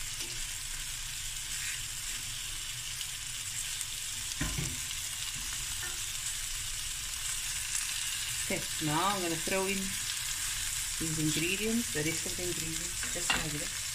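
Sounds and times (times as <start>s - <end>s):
chicken sizzling in a pan: 0.0s - 13.9s.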